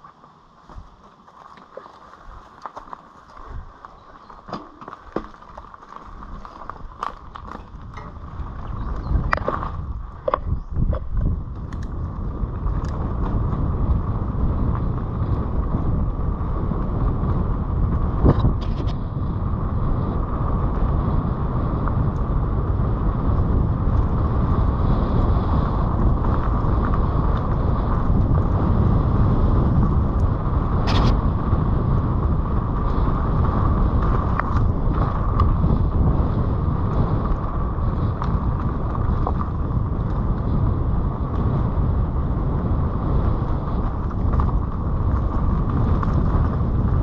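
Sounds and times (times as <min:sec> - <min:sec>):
bike tyres rumbling on dirt: 0:00.0 - 0:47.0
wind buffeting microphone: 0:01.7 - 0:47.0.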